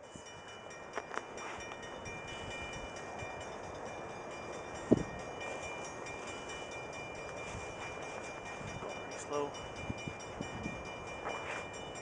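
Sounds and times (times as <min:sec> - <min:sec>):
distant freight train rumble: 0:00.0 - 0:12.0.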